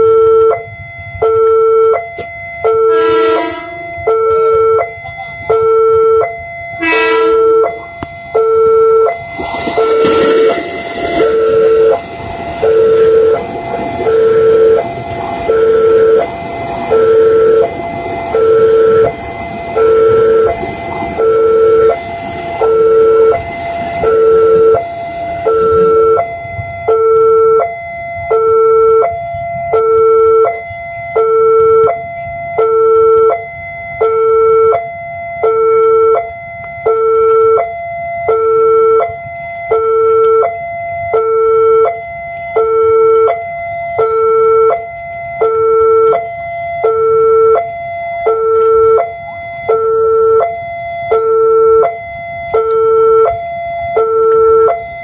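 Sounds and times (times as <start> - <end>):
level crossing two-tone alarm: 0.0 - 55.0
passing train: 0.0 - 55.0.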